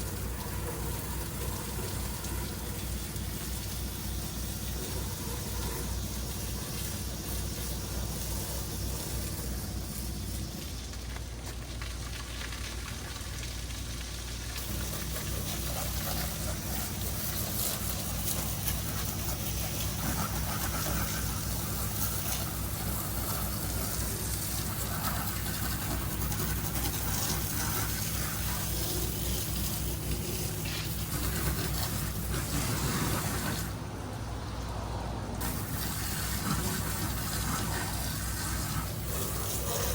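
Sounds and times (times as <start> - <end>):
engine running steadily: 0.0 - 39.9
water spraying: 0.0 - 39.9.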